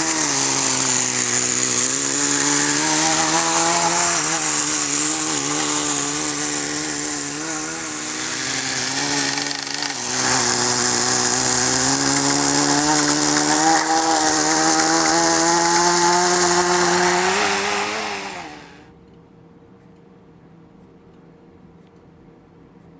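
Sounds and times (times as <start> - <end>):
small engine buzzing: 0.0 - 18.9.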